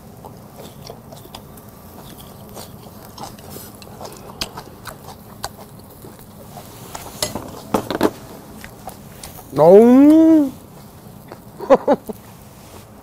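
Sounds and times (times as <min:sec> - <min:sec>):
person chewing noodles: 0:00.0 - 0:09.6, 0:10.6 - 0:12.3.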